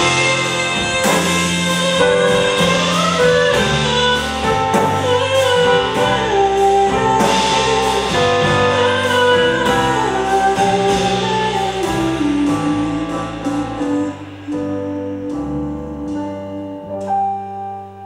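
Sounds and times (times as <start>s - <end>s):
woman singing: 0.0s - 17.2s
band playing slow song: 0.0s - 18.0s.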